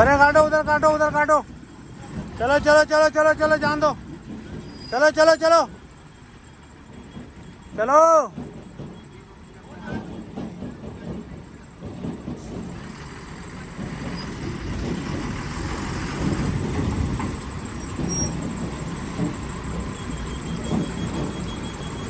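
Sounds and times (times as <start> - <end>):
diesel tractor engines labouring: 0.0 - 22.0.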